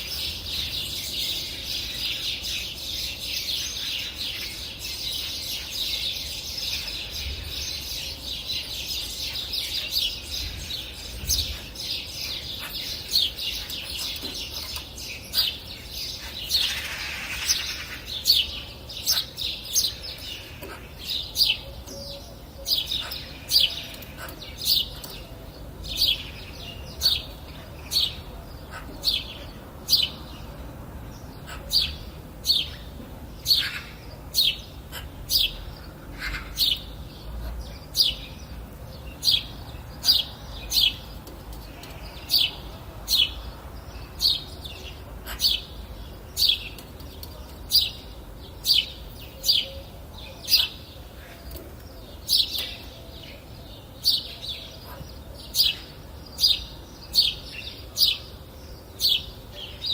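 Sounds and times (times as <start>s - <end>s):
songbirds chirping chorus: 0.0s - 59.9s.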